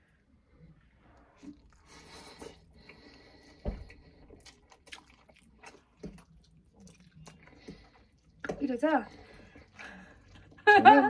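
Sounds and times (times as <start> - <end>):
slurping and chewing noodles: 0.7 - 10.7.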